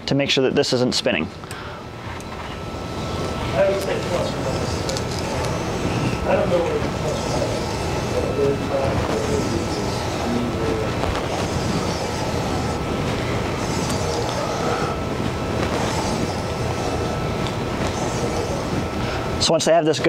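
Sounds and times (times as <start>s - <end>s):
mechanical rumble with hiss: 0.6s - 20.0s.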